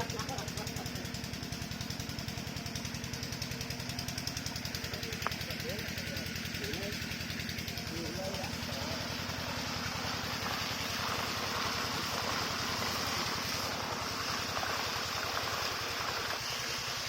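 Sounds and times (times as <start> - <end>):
diesel engine running: 0.0 - 17.0
pumped water gushing: 0.0 - 17.0.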